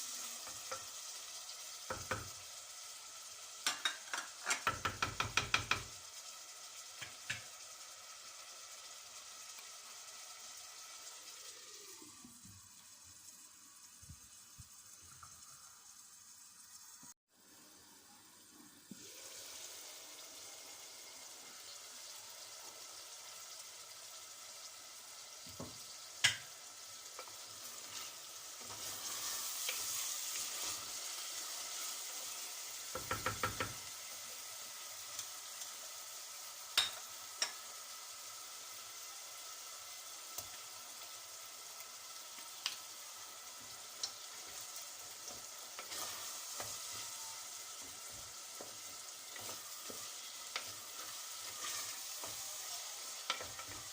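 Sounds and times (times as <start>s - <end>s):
food sizzling in a pot: 0.0s - 53.9s.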